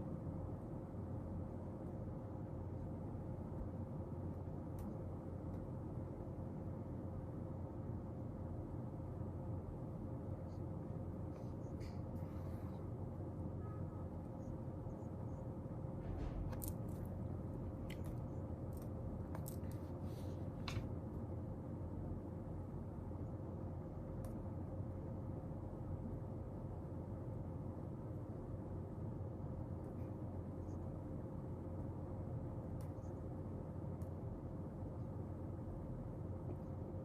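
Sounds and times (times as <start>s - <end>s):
faint hum: 0.0s - 37.0s.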